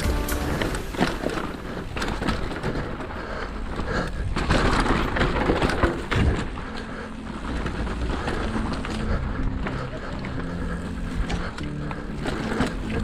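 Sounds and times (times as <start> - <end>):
bike frame and chain rattling: 0.0 - 13.0
tyres crunching on stones and dirt: 0.0 - 13.0.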